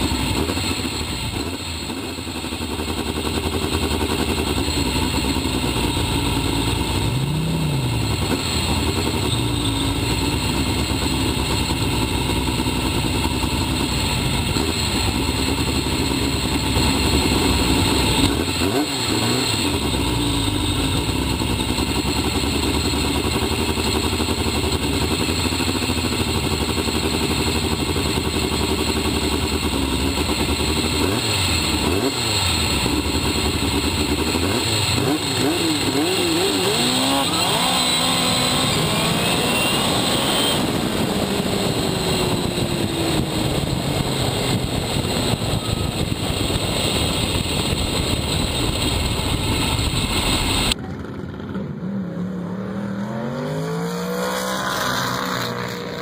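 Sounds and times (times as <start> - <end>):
turbocharged engine idling and revving: 0.0 - 56.0.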